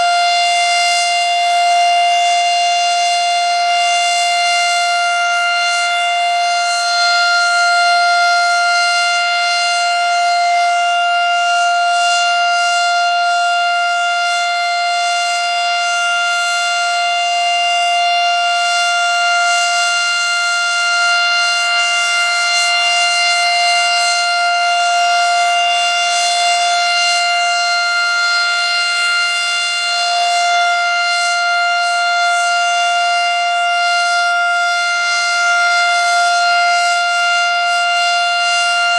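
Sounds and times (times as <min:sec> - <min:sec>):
steady electromechanical siren: 0:00.0 - 0:38.9.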